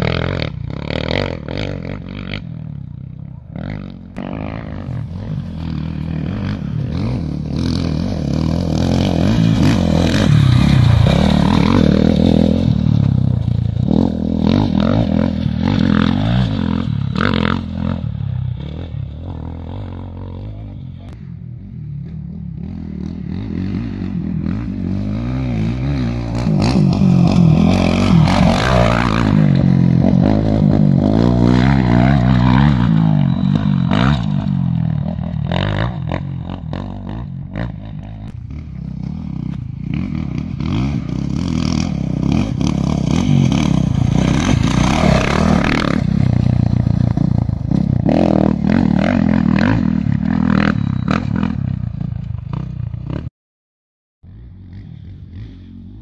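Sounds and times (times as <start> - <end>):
vehicle engine revving: 3.6 - 21.2, 22.6 - 51.7.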